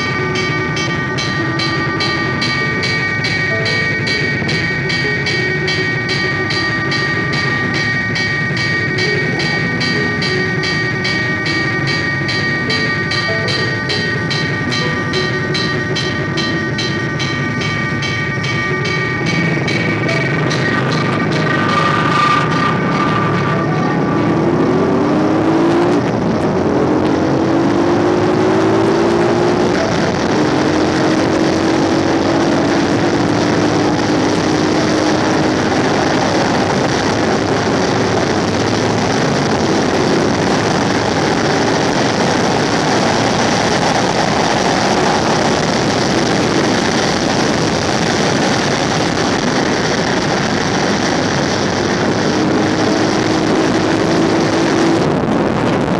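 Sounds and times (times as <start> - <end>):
motorcycle engine accelerating: 0.0 - 55.9
wind and road noise: 0.0 - 55.9.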